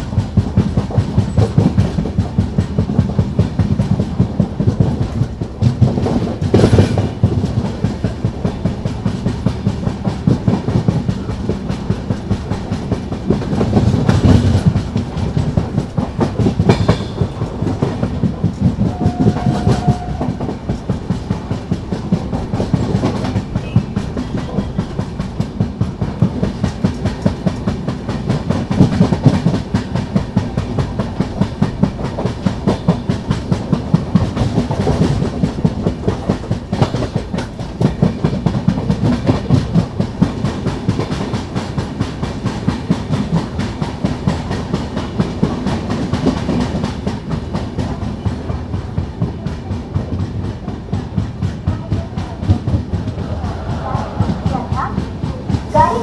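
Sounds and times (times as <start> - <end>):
train wheels running on track: 0.0 - 56.0.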